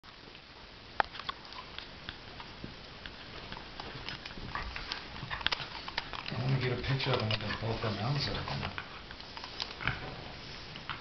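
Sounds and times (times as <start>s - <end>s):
dogs scuffling and clicking: 1.1s - 11.0s.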